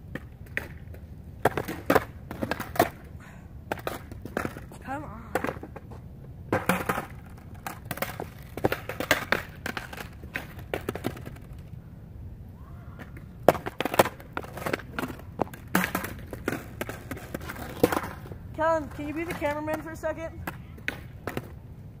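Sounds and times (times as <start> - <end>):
skateboard knocking on concrete: 0.0 - 11.8, 13.0 - 21.6.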